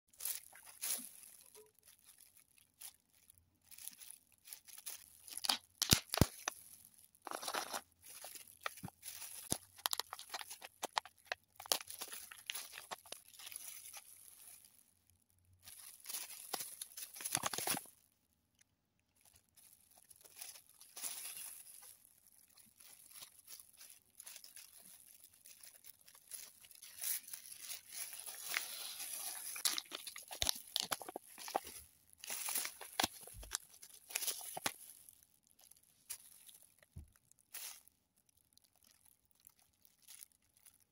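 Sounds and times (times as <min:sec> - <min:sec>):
plastic gloves and packaging crinkling: 0:00.1 - 0:40.9.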